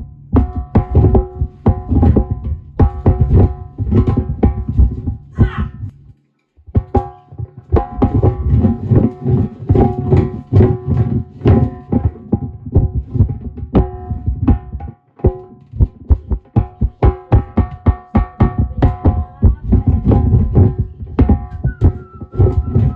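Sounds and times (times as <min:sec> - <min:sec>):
fast hand-drum beat: 0:00.0 - 0:06.0, 0:06.7 - 0:22.9.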